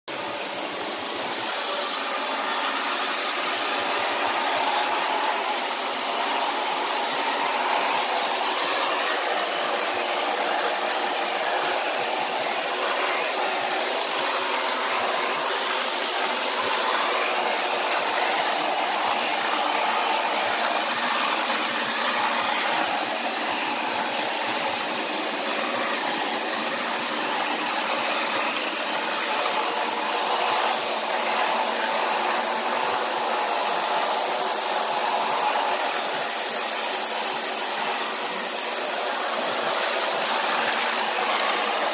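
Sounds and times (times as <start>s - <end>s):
vacuum cleaner motor hissing: 0.1s - 41.9s.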